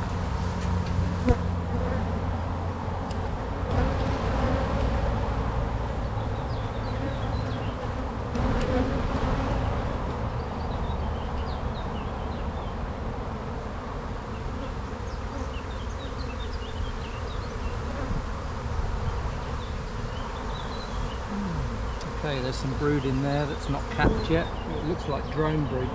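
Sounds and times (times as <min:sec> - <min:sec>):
honey bees buzzing: 0:00.0 - 0:25.9.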